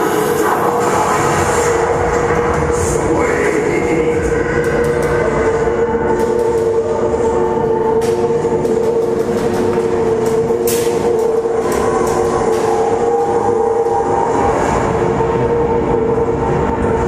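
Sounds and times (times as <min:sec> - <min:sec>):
loud mechanical hum: 0:00.0 - 0:17.0.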